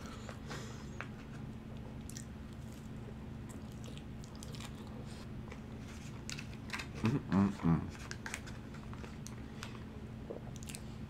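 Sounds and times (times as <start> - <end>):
person chewing fries: 0.0 - 11.0.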